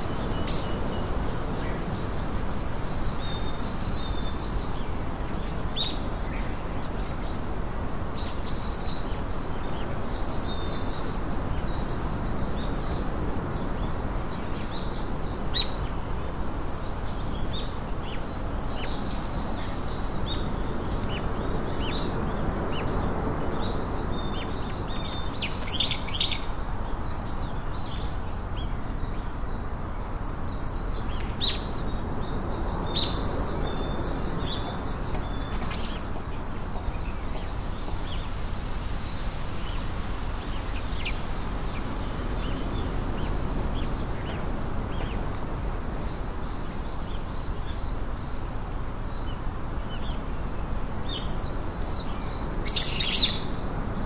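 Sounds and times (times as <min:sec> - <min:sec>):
small songbirds chirping: 0:00.0 - 0:54.0
steady background hiss: 0:00.0 - 0:54.0.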